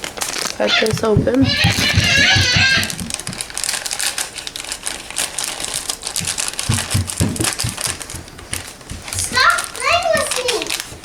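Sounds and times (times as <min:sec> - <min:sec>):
plastic pouch crackling: 0:00.0 - 0:11.0.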